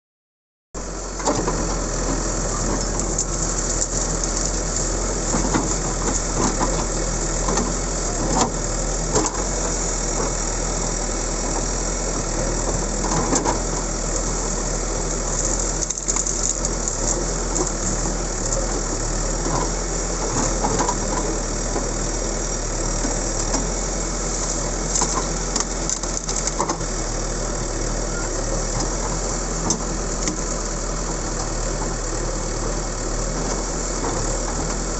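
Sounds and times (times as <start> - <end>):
digger diesel engine running: 0.8 - 34.9.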